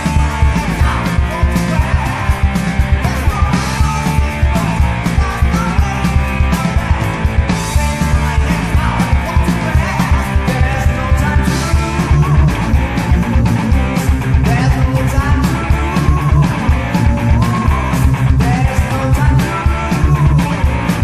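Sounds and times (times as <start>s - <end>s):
heavy metal band playing: 0.0s - 21.0s.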